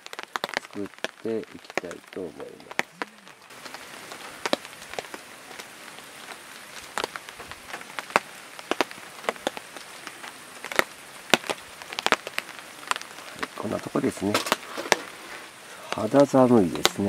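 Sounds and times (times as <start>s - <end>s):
rain drips and taps: 0.0s - 17.0s
soft rain hiss: 0.0s - 17.0s.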